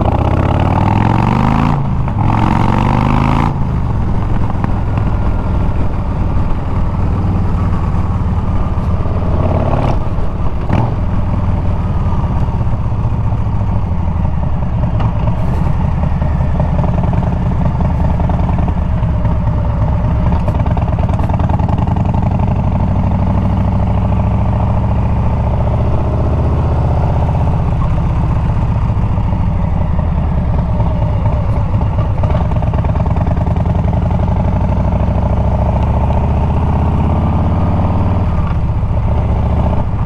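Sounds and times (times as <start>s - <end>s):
motorcycle engine riding: 0.0s - 40.0s.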